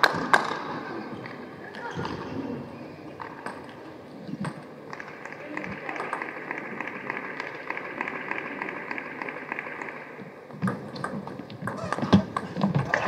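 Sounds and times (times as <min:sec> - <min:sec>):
hall background noise: 0:00.0 - 0:13.0.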